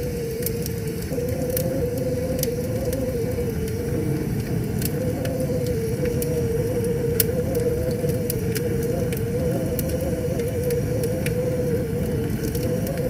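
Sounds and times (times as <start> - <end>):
fire crackling and popping: 0.0 - 13.0
roar of flames: 0.0 - 13.0
steady hum: 0.0 - 13.0.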